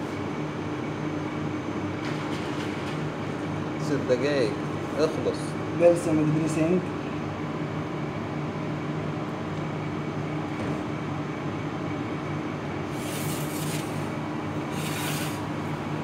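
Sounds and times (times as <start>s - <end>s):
kitchen machinery humming: 0.0s - 16.0s.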